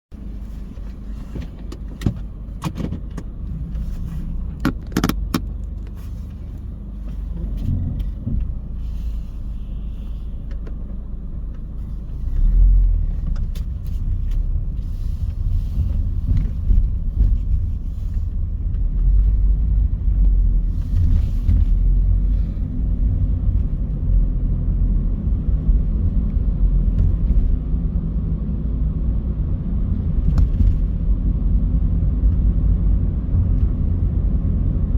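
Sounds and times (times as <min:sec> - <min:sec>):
car engine and road rumble: 0:00.0 - 0:34.9.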